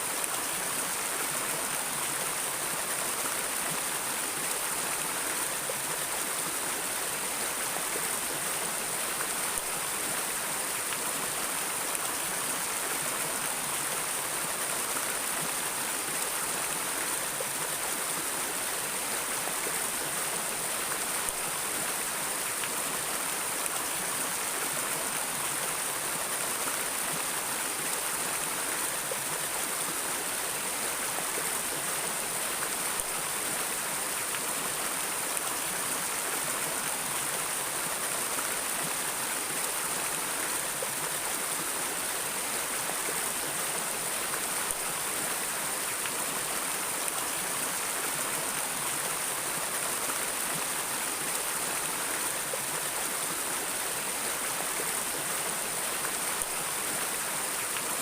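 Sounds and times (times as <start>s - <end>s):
water flowing in a stream: 0.0s - 58.0s.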